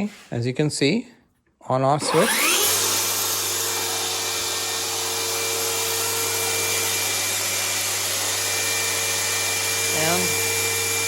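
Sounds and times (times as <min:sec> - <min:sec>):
table saw motor whine and blade whir: 0:02.0 - 0:11.0.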